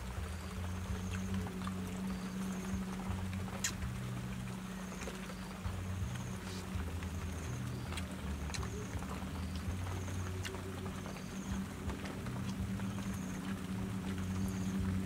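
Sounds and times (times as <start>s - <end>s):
faint clicks: 0.0s - 15.0s
steady low hum: 0.0s - 15.0s.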